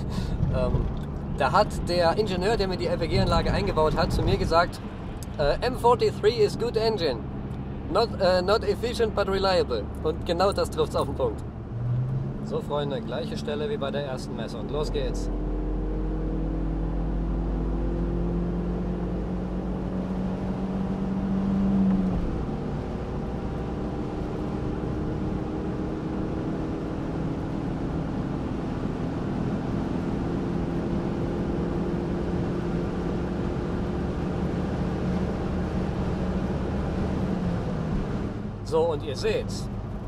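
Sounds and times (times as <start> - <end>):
car engine accelerating: 0.0 - 40.0
road and wind noise: 0.0 - 40.0.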